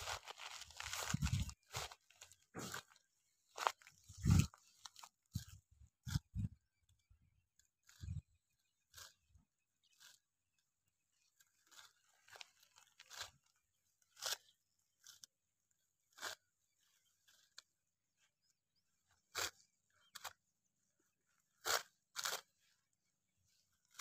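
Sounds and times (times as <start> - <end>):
sickle cutting fodder stalks: 0.0 - 24.0.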